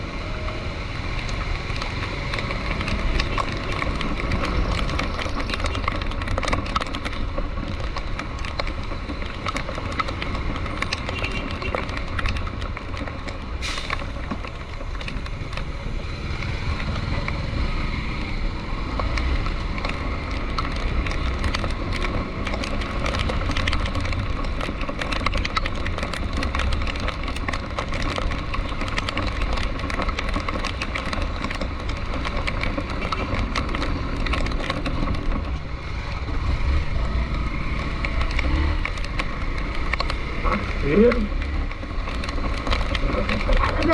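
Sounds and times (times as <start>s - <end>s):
raindrops crackling: 0.0s - 43.9s
vehicle road and engine rumble: 0.0s - 43.9s.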